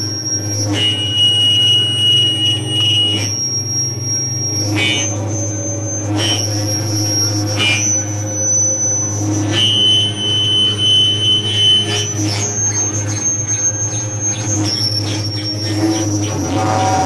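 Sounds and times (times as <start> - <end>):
harsh electronic noise music: 0.0 - 17.0
low hum: 0.0 - 17.0
piercing high sustained tones: 0.0 - 17.0.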